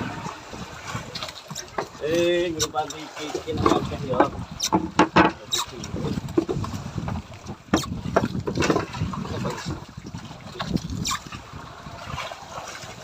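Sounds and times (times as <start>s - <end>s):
knocks and splashes: 0.0s - 13.0s
waves slapping boat hull: 0.0s - 13.0s.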